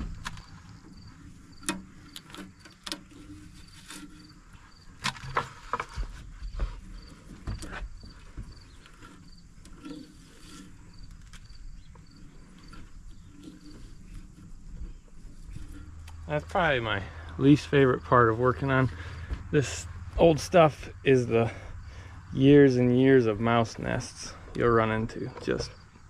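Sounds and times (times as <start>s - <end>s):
dry debris rustling and scraping: 0.0s - 26.0s.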